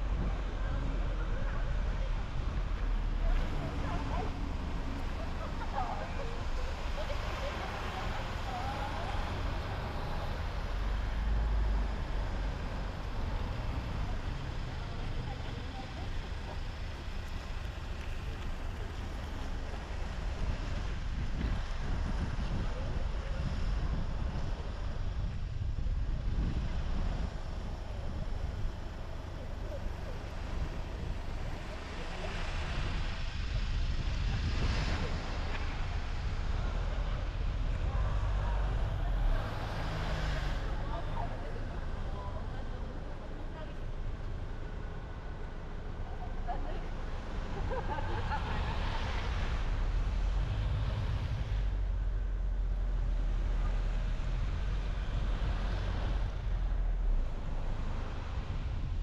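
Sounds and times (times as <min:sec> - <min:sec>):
car driving on road: 0:00.0 - 0:59.0
deep low engine rumble: 0:00.0 - 0:59.0.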